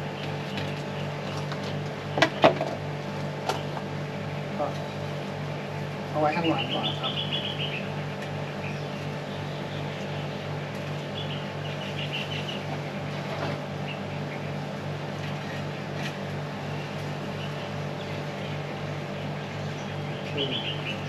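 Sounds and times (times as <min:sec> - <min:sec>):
birds chirping: 0:00.0 - 0:21.0
low mechanical hum: 0:00.0 - 0:21.0.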